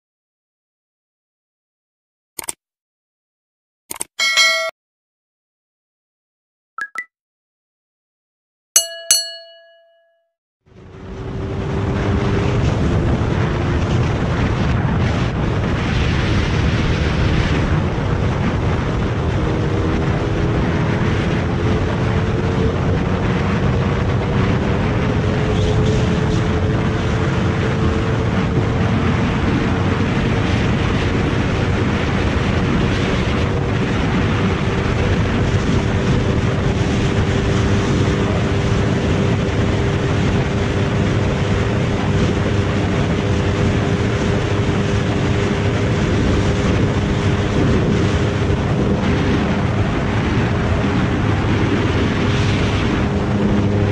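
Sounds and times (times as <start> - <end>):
motorcycle engine at high speed: 10.7 - 53.9
road noise: 10.7 - 53.9
wind rush on microphone: 10.7 - 53.9.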